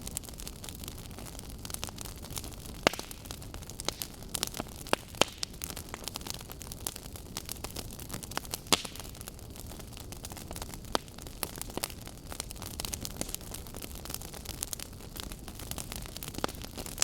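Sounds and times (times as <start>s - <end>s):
burning logs crackling and popping: 0.0s - 17.0s.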